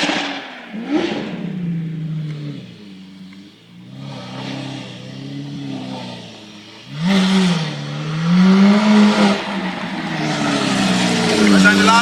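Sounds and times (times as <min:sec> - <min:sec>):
sports car engine revving: 0:00.0 - 0:12.0.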